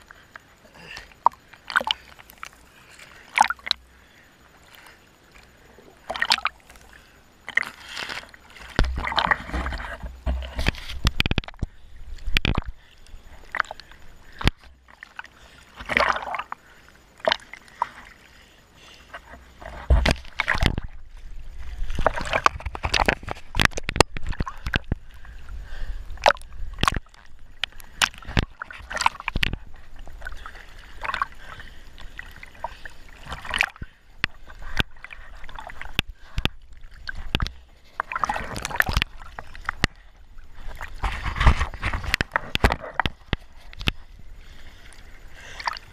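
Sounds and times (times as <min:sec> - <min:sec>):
sea water splashing: 0:00.0 - 0:45.9.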